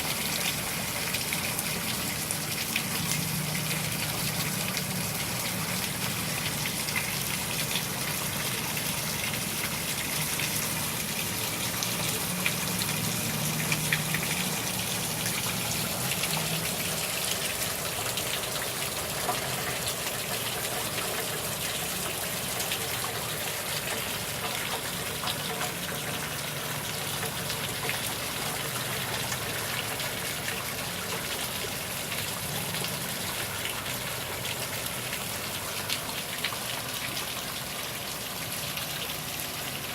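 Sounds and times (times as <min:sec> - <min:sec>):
gushing water: 0:00.0 - 0:39.9
heavy rain pattering: 0:00.2 - 0:39.9.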